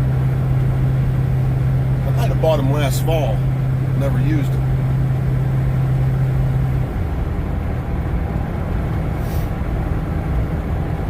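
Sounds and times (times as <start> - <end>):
road and engine noise in truck cab: 0.0 - 11.0.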